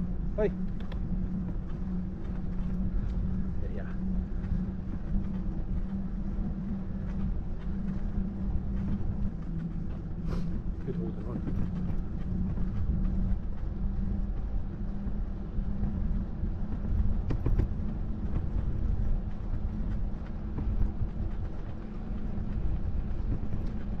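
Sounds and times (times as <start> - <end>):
wind on microphone: 0.0 - 24.0
bicycle tyres on tarmac: 0.6 - 24.0
light clicks and rattles: 0.6 - 24.0.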